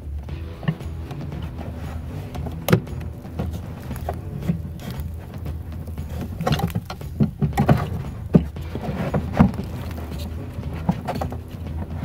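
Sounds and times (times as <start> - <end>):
hands working on car parts: 0.0 - 12.0
steady low hum: 0.0 - 12.0.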